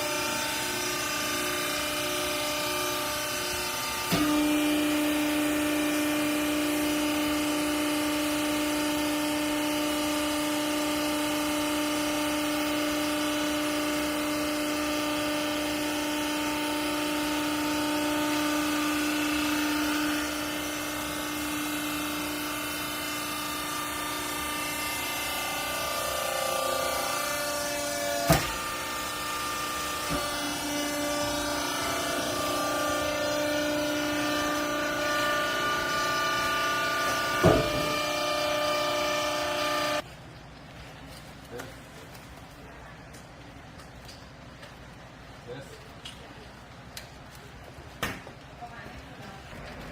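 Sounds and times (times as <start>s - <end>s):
baler machine whine: 0.0s - 40.0s.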